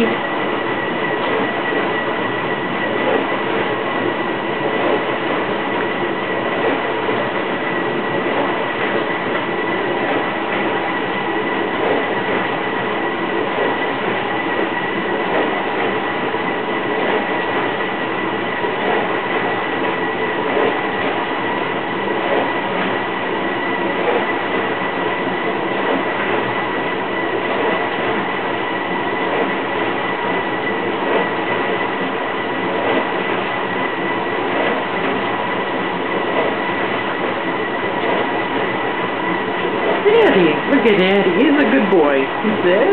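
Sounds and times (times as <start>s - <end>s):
mechanical whirring hum: 0.0s - 42.9s.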